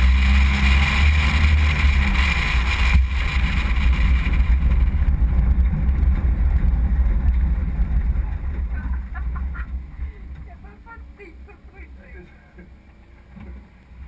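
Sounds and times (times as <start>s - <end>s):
wind buffeting: 0.0s - 11.8s
vehicle engine rumble: 0.0s - 14.0s.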